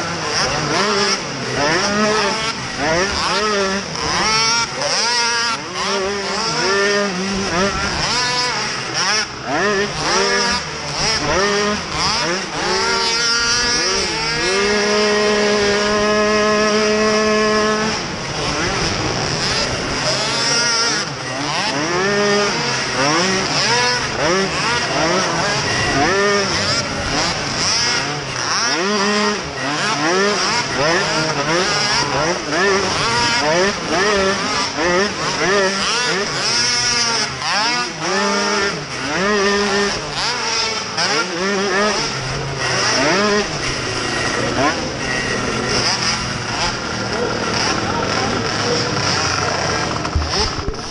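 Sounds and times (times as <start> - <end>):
quad engine revving: 0.0 - 50.9.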